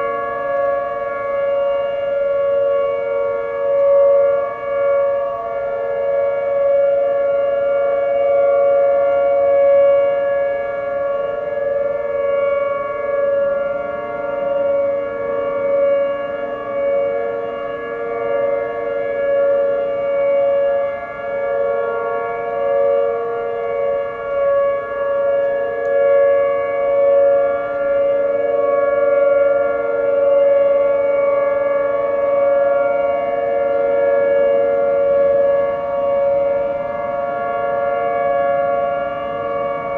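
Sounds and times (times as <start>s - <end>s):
outdoor warning sirens: 0.0s - 39.9s.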